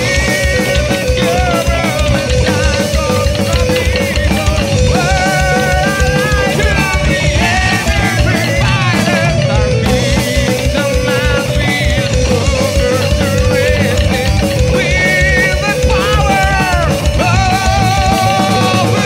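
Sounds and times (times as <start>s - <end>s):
fast kick drum: 0.0s - 19.0s
heavy metal band playing: 0.0s - 19.0s
wavering lead melody: 0.0s - 19.0s.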